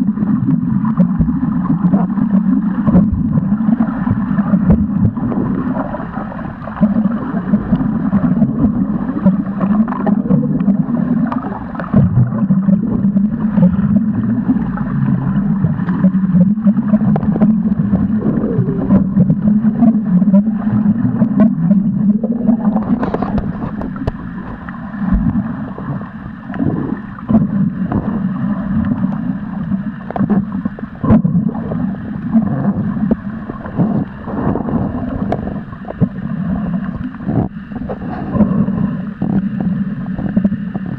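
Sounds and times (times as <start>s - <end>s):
underwater clicks and crackles: 0.0s - 40.9s
underwater low rumble: 0.0s - 40.9s.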